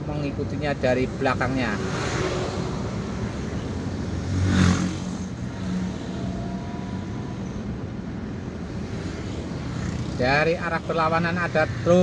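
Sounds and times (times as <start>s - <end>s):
car engine and road noise: 0.0s - 12.0s
rush of passing noise: 1.3s - 12.0s.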